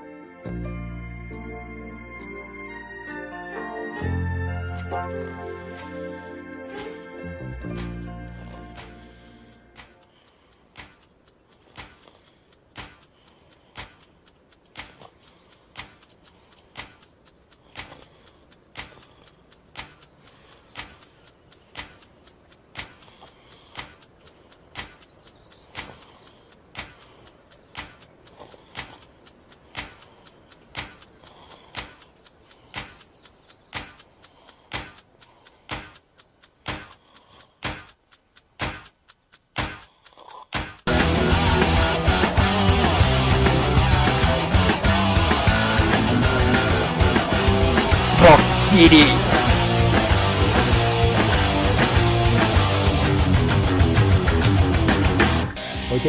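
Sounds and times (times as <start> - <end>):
clock ticking: 0.5 - 56.0.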